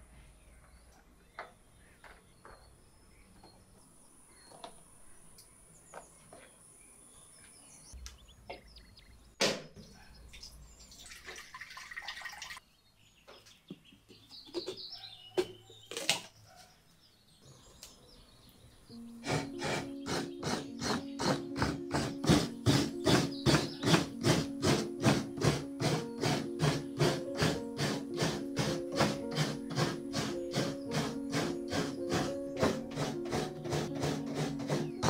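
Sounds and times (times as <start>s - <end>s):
birds chirping: 0.0s - 11.6s, 12.6s - 35.0s.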